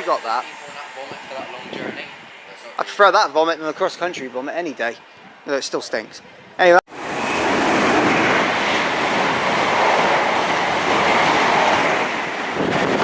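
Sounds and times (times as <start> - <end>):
train passing at speed: 0.0 - 5.5, 6.9 - 13.0.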